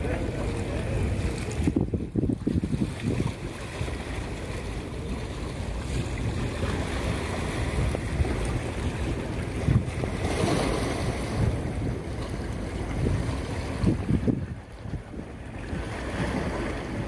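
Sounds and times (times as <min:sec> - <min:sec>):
waves lapping on rocky shore: 0:00.0 - 0:17.0
wind buffeting microphone: 0:00.0 - 0:17.0.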